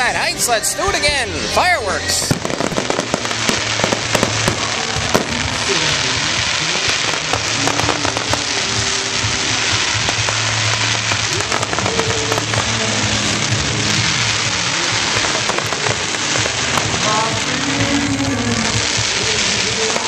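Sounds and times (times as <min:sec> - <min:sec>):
dense crackling hiss: 0:00.0 - 0:20.0
fireworks popping and crackling: 0:00.0 - 0:20.0.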